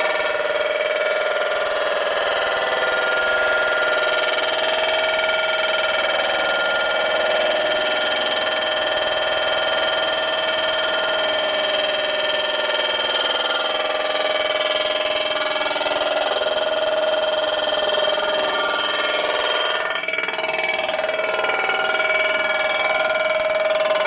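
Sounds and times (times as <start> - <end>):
machine tool cutter whining: 0.0 - 24.0.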